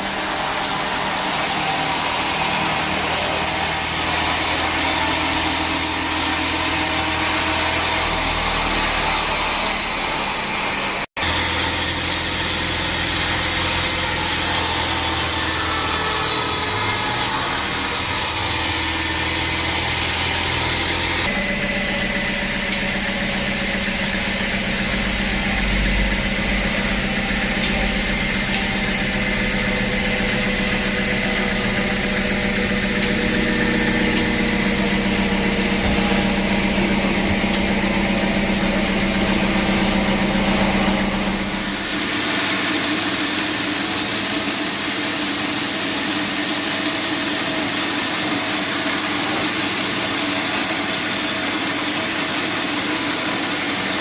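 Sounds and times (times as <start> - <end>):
band saw blade cutting wood: 0.0 - 54.0
machine motor hum: 0.0 - 54.0.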